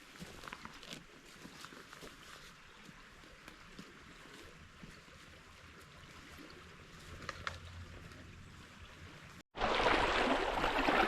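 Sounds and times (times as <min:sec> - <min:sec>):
stream running: 0:00.0 - 0:11.0.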